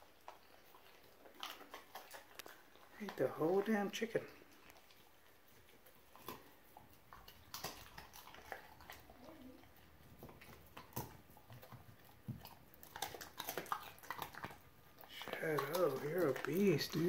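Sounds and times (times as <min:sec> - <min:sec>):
dog chewing meat and bone: 0:00.0 - 0:17.0.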